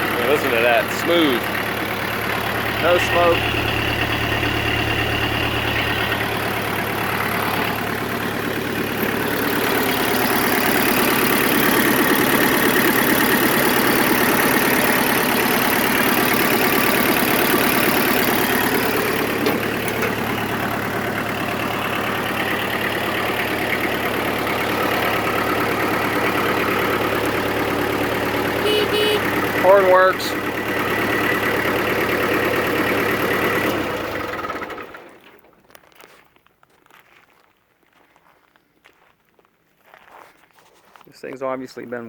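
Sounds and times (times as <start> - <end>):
tractor diesel engine running: 0.0 - 35.6.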